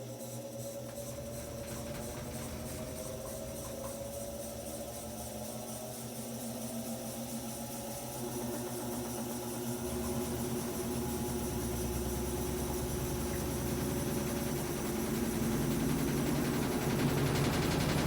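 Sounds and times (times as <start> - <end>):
washing machine motor hum: 0.1 - 18.0.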